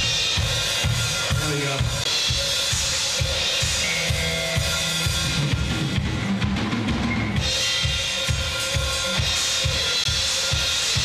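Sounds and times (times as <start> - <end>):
bass drum beats: 0.0 - 11.0
rock band playing loud: 0.0 - 11.0.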